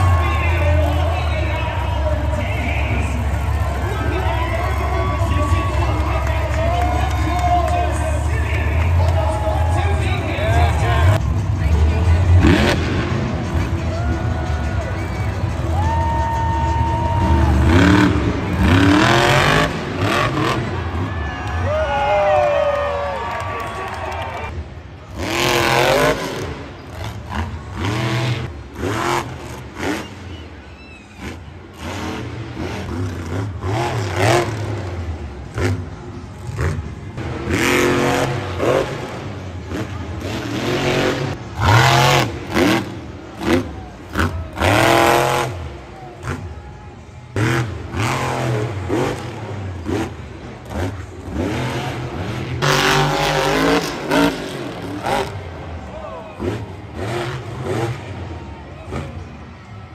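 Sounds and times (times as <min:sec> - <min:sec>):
monster truck engine revving: 0:00.0 - 0:59.9.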